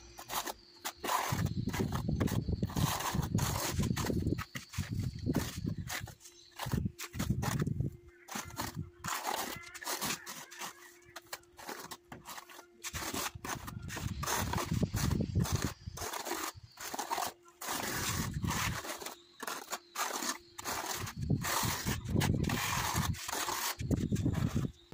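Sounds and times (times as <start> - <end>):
trowel scraping tile adhesive: 0.2 - 7.6, 8.3 - 24.7.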